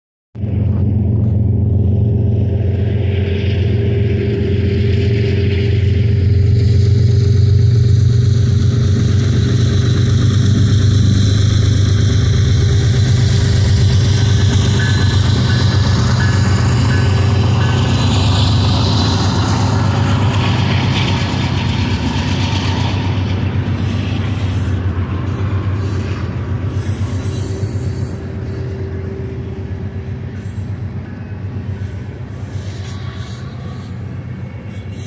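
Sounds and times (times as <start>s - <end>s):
diesel locomotive engine drone: 0.4s - 35.0s.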